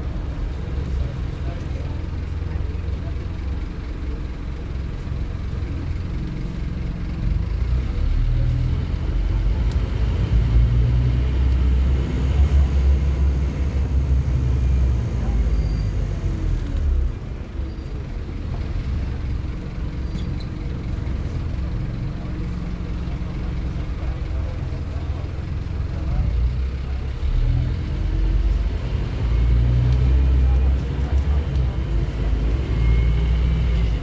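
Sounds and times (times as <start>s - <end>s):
bus diesel engine accelerating: 0.0s - 34.0s.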